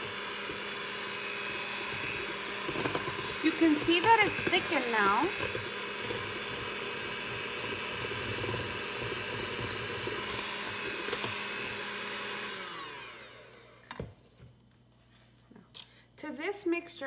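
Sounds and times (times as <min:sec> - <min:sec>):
mixer winding down: 0:00.0 - 0:13.9
electric hand mixer whisking: 0:00.0 - 0:14.0.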